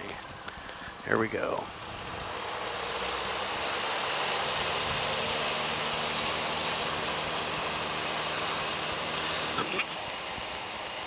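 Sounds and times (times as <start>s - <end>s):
airplane engine at full throttle: 1.6s - 11.0s.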